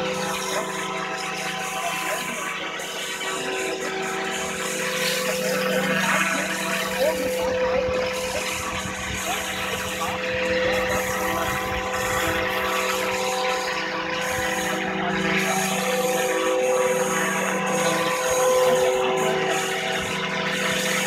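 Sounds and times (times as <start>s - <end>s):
model helicopter rotor whine: 0.0s - 21.0s.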